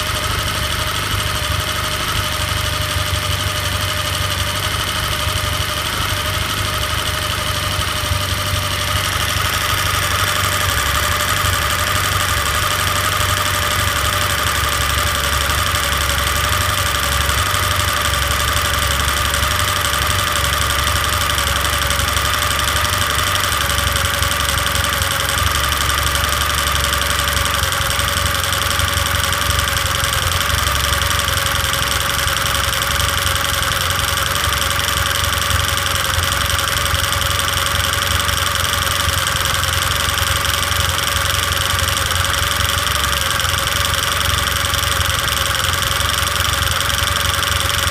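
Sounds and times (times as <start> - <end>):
engine idling with rapid knocking: 0.0 - 47.9.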